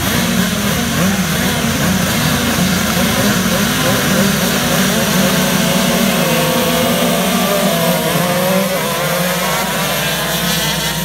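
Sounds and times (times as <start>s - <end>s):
kart engines revving past: 0.0s - 11.0s.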